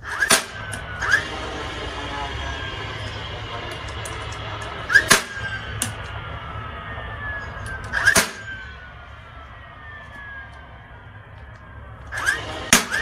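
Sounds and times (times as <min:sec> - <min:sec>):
motor whine sliding down: 0:00.0 - 0:13.0
rising chirp: 0:00.5 - 0:13.0.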